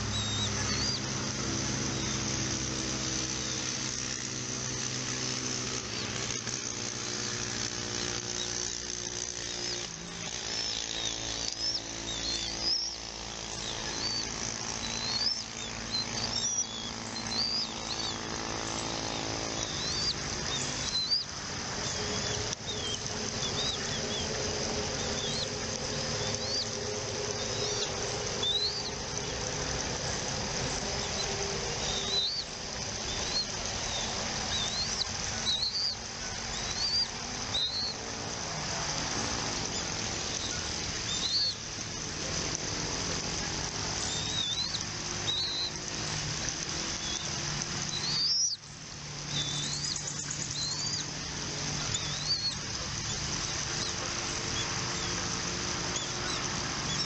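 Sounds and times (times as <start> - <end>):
bird high chirps: 0.0 - 2.4, 5.8 - 38.1, 39.6 - 41.7, 44.0 - 45.9, 46.6 - 48.6, 49.2 - 51.2, 51.8 - 57.0
low machine hum: 0.0 - 57.0.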